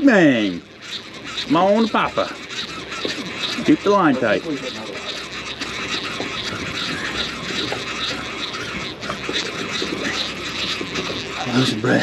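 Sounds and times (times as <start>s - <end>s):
sea noise: 0.0s - 12.0s
wind: 0.0s - 12.0s.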